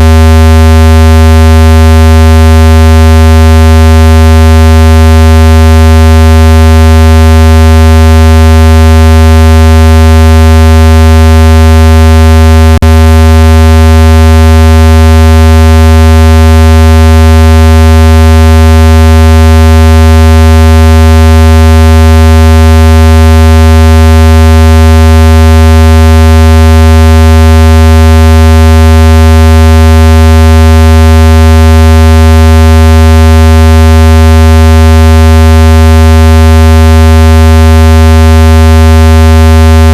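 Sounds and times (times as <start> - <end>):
loud low buzzing tone: 0.0 - 39.9.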